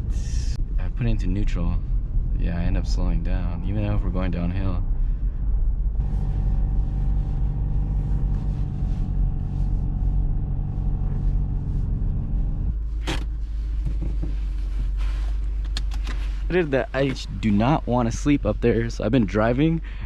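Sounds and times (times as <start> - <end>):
car engine idling: 0.0 - 20.0
low rumble: 0.0 - 20.0.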